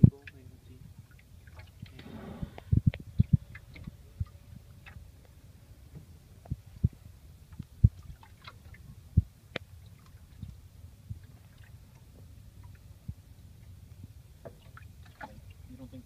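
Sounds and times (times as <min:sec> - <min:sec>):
water lapping: 0:00.1 - 0:05.5, 0:06.5 - 0:16.0.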